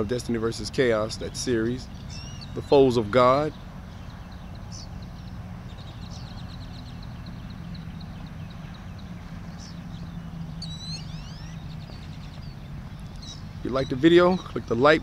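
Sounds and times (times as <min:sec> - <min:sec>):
bird call with sweeping notes: 0:00.0 - 0:15.0
birds chirping: 0:00.0 - 0:15.0
steady low hum: 0:00.0 - 0:15.0.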